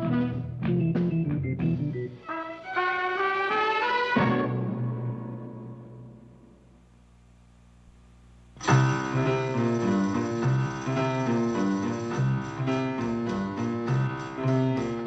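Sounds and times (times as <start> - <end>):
television score music: 0.0 - 15.0.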